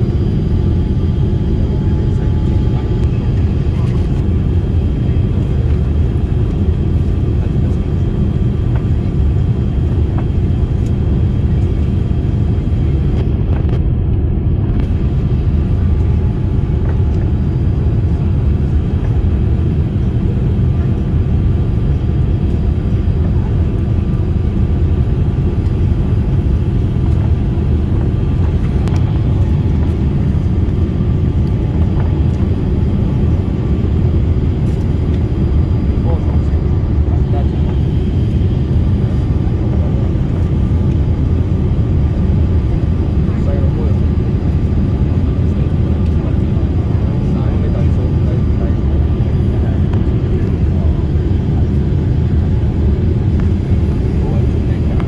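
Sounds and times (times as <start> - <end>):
airliner cabin engine noise: 0.0 - 55.0.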